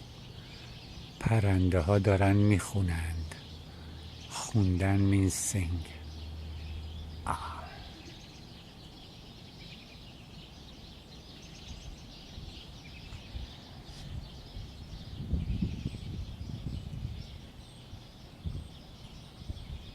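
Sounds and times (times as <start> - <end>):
songbirds chirping and trilling: 0.0 - 19.9.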